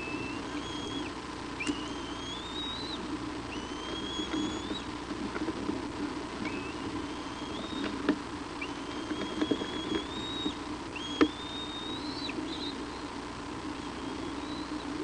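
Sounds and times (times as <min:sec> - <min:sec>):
high whistled bird calls: 0:00.0 - 0:04.9, 0:06.4 - 0:08.0, 0:08.6 - 0:13.2, 0:13.8 - 0:15.0.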